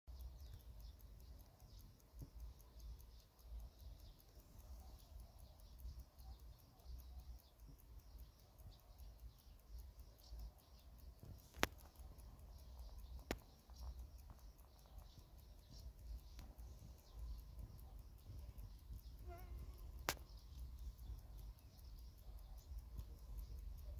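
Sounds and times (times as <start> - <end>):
sharp stopwatch clicks: 0.0 - 23.9
stopwatch ticking: 0.0 - 23.9.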